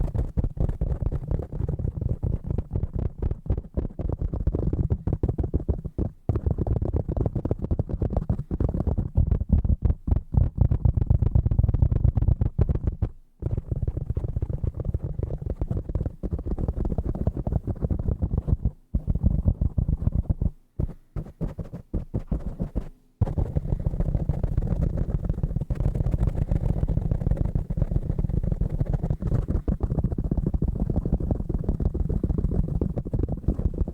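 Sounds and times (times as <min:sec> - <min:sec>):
fingertips tapping on objects: 0:00.0 - 0:33.9.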